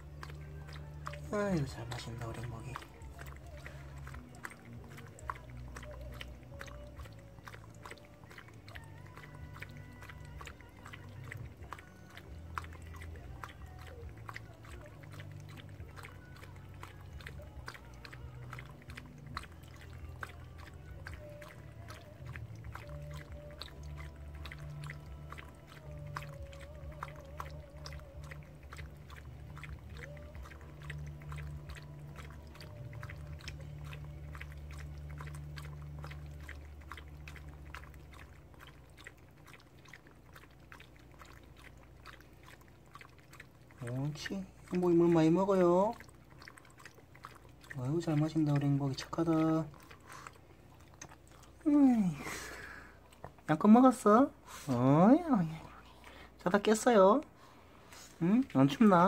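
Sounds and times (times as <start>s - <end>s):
dog lapping water: 0.0s - 59.0s.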